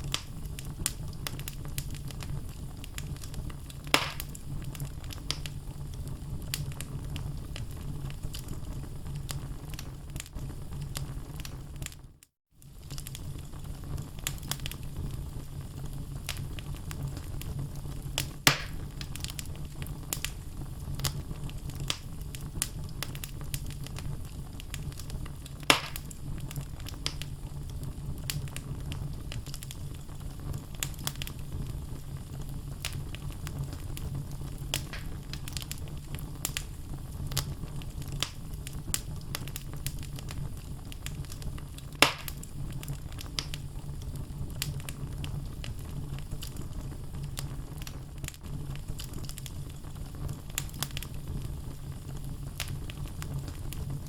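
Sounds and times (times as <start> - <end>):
fire crackles: 0.0 - 54.0
loud fire pops: 0.0 - 54.0
low rumble of flames: 0.0 - 54.0.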